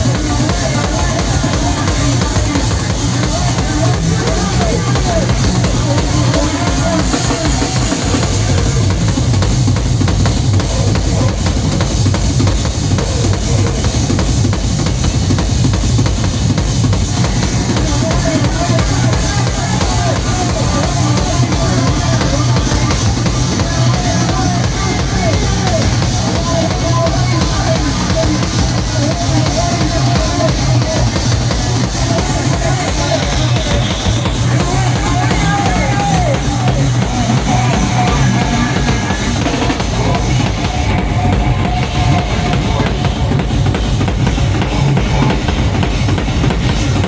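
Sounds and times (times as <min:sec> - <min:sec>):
distorted bass guitar: 0:00.0 - 0:47.0
fast dense drumming: 0:00.0 - 0:47.0.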